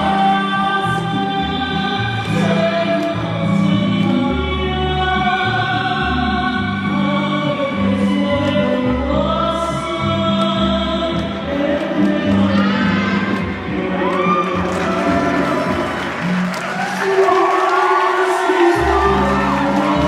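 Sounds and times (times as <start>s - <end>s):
choral singing: 0.0s - 20.0s.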